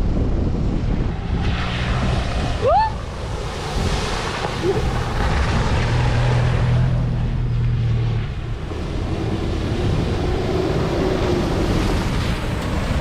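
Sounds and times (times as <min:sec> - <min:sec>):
road rumble: 0:00.0 - 0:13.0
truck engine drone: 0:00.0 - 0:13.0
wind buffeting microphone: 0:00.0 - 0:13.0.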